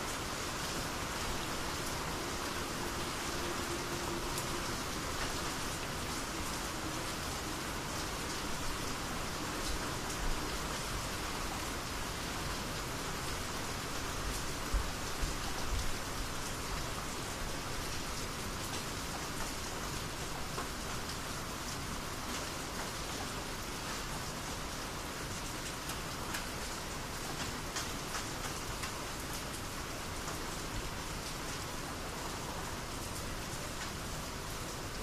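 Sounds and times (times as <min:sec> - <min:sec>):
raindrops striking close by: 0:00.0 - 0:35.0
steady rain: 0:00.0 - 0:35.0.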